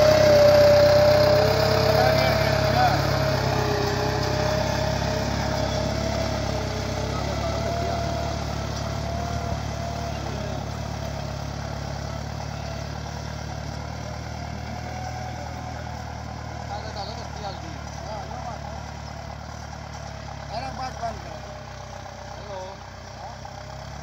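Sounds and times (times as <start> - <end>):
tractor engine under load: 0.0 - 24.0.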